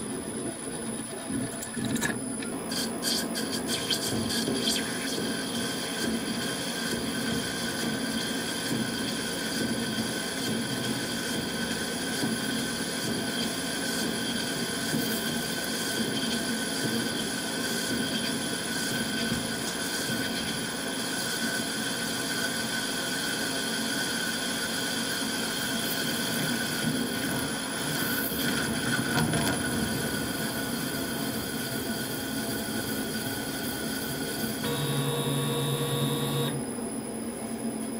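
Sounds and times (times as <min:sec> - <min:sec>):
lathe spindle whine: 0:02.4 - 0:37.0.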